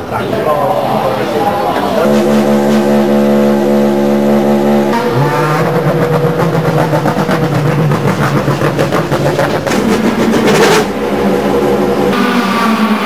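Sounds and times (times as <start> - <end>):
single-seater race car engine: 0.0 - 13.0
race car engine running: 1.9 - 13.0.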